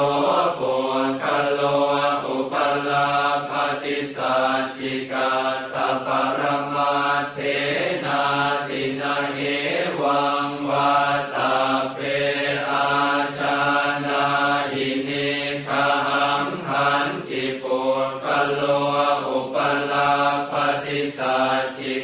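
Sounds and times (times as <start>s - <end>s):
voices chanting in monotone: 0.0s - 22.0s.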